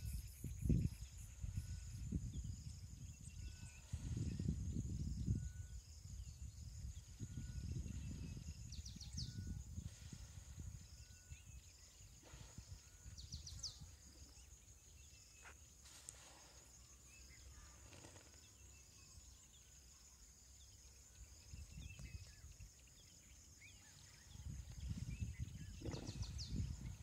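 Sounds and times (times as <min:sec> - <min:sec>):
faint bird chirps: 0:00.0 - 0:27.0
insects chirring: 0:00.0 - 0:27.0.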